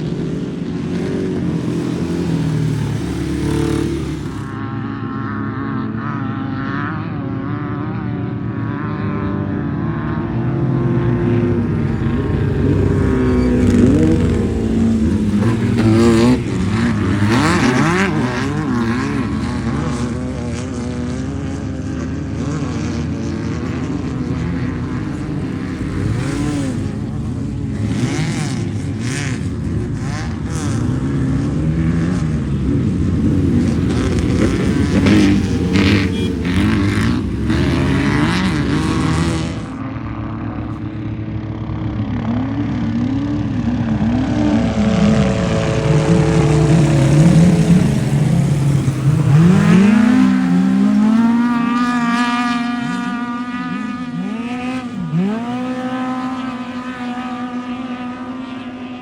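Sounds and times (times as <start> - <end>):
race engines revving: 0.0 - 59.0.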